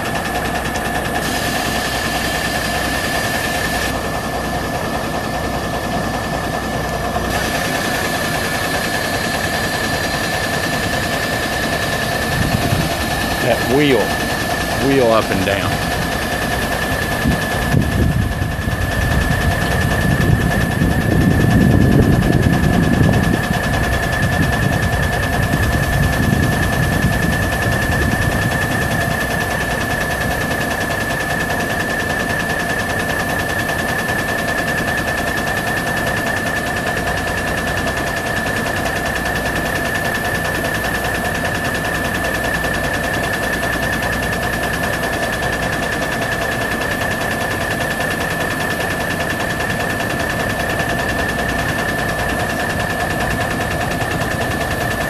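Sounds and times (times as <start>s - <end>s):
diesel engine idling: 0.0s - 55.0s
steady high whine: 0.0s - 55.0s.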